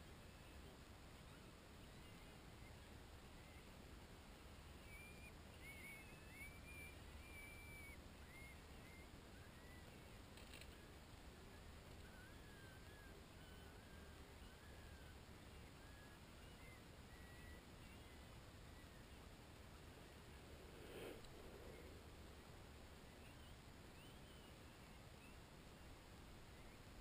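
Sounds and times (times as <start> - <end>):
small bird chirping: 4.6 - 27.0.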